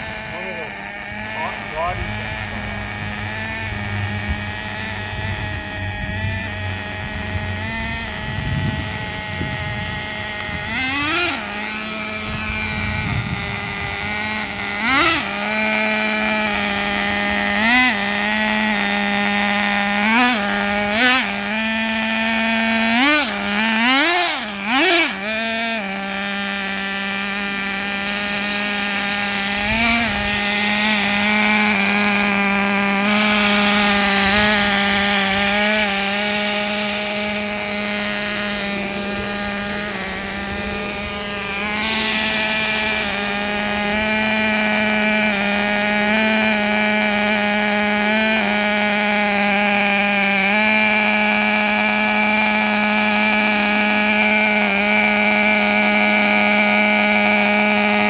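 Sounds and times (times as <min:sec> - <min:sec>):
nitro engine idling and revving: 0:00.0 - 0:58.0.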